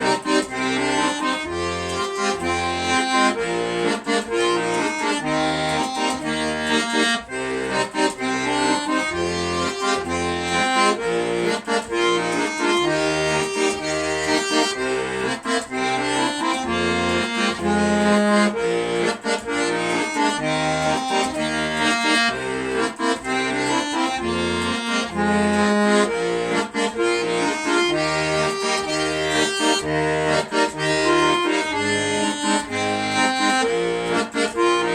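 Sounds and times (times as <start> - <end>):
solo instrumental melody: 0.0 - 34.9.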